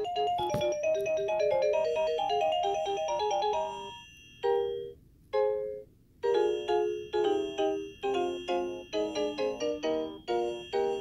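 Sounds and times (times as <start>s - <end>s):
electronic toy tune: 0.0s - 11.0s.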